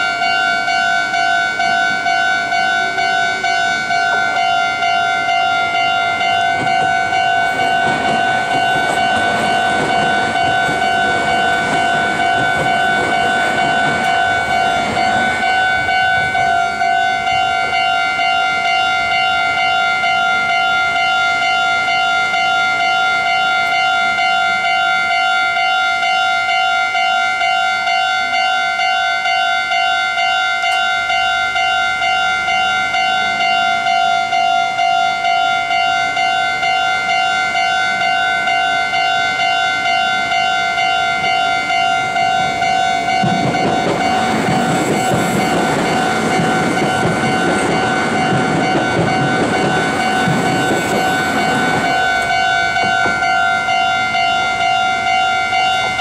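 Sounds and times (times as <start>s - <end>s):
level-crossing bell ringing: 0.0s - 56.0s
passing train rumble: 0.0s - 56.0s.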